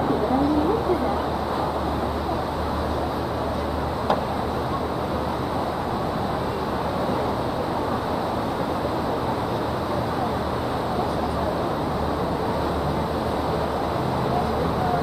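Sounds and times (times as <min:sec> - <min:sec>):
boat engine humming: 0:00.0 - 0:15.0
broad rushing noise: 0:00.0 - 0:15.0.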